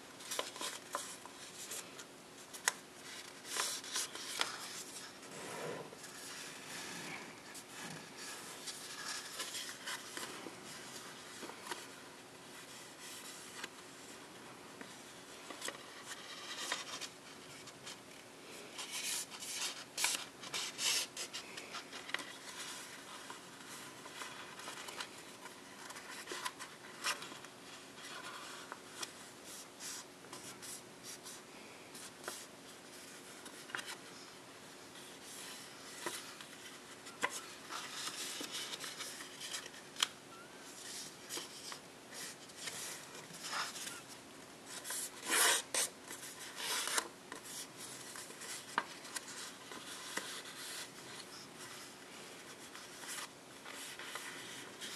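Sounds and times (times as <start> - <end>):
paper rustling and creasing: 0.1 - 14.2, 14.8 - 54.9.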